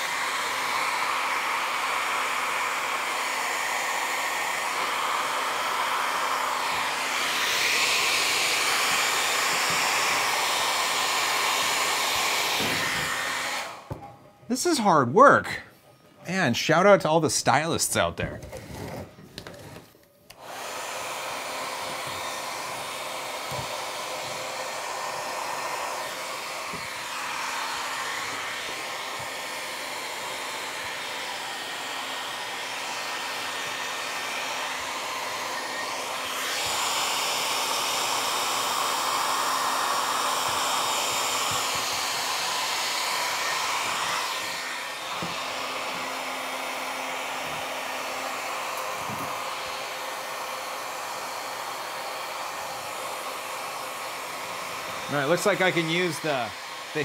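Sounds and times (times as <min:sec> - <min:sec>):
hair dryer running: 0:00.0 - 0:14.8, 0:20.3 - 0:57.0.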